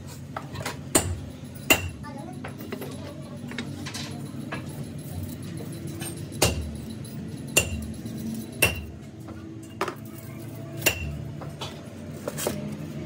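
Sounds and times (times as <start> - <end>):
low workshop hum: 0.0 - 13.0
metallic clinks: 1.2 - 12.0.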